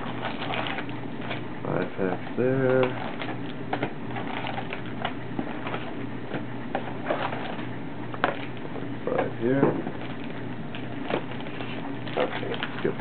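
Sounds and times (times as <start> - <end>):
cardboard and foil rustling: 0.0 - 13.0
steady low hum: 0.0 - 13.0.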